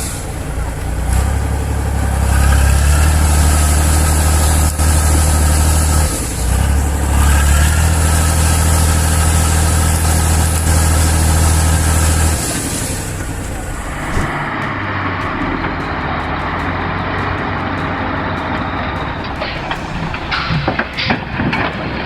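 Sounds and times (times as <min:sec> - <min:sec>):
heavy truck engine under load: 0:00.0 - 0:22.0.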